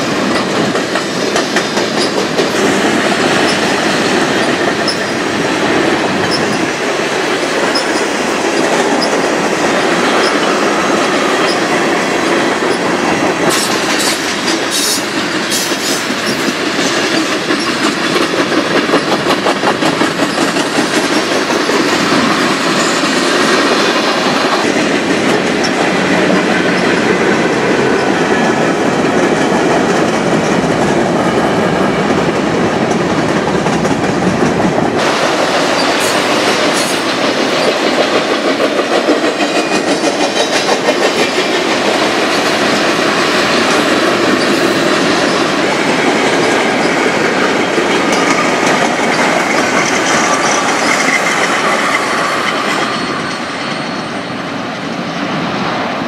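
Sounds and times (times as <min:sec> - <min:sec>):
clatter over rail joints: 0:00.0 - 0:54.0
freight train wheels rumbling: 0:00.0 - 0:56.0.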